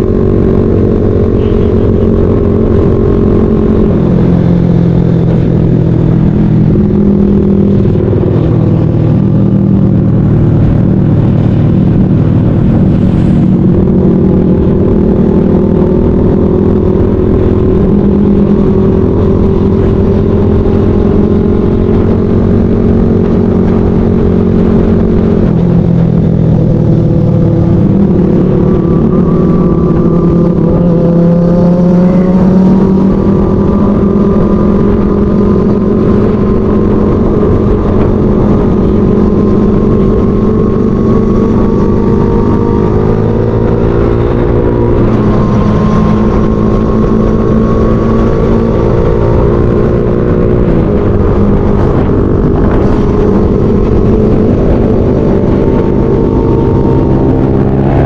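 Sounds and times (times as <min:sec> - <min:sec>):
motorcycle engine at speed: 0:00.0 - 0:58.0
road noise: 0:00.0 - 0:58.0
wind noise: 0:00.0 - 0:58.0.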